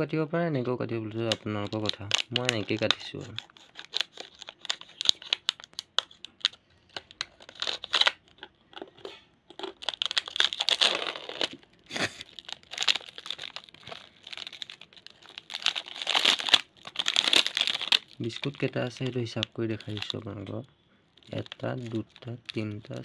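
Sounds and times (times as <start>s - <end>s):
plastic wrapper crinkling: 0.9s - 23.0s
blade slitting plastic wrapper: 1.1s - 8.9s, 9.5s - 11.6s, 12.2s - 20.5s, 21.2s - 23.0s.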